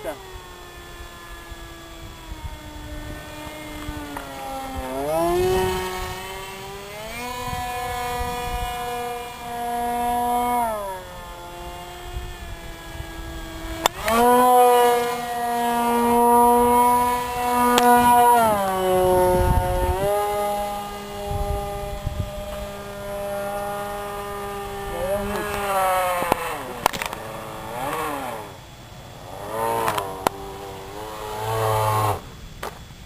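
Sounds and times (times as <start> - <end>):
model airplane motor buzzing: 0.0 - 33.0.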